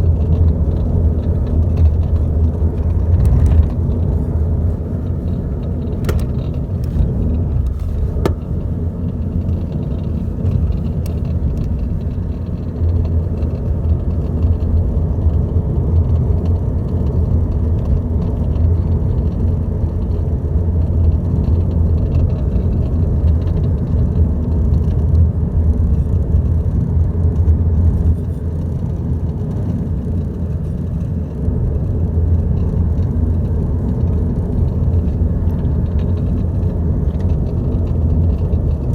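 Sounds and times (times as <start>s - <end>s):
dashboard rattle ticks: 0.0s - 25.0s, 28.0s - 38.9s
diesel engine low rumble: 0.0s - 38.9s.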